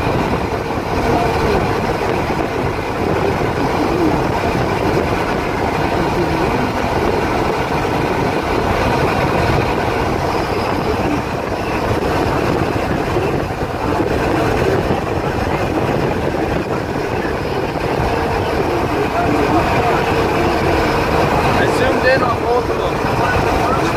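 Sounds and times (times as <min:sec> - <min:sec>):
truck road and engine noise: 0:00.0 - 0:23.9.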